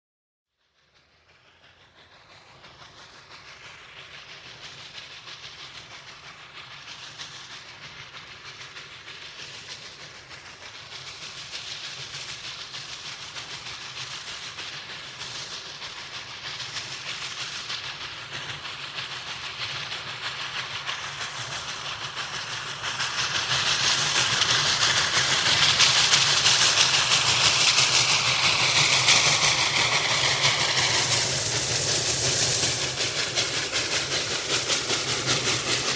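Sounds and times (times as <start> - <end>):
steam locomotive wheels clattering: 0.8 - 35.9
steam hissing: 1.2 - 35.9.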